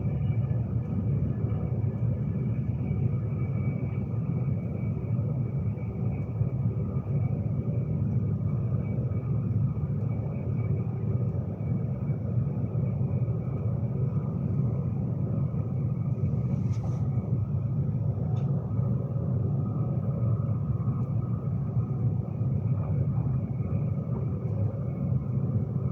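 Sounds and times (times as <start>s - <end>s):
train running rumble: 0.0s - 25.9s.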